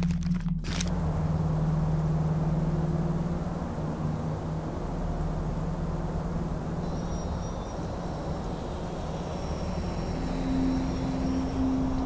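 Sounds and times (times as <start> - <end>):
hum: 0.0 - 12.0
low rumbling ambience: 0.0 - 12.0
steady low tone: 0.0 - 12.0.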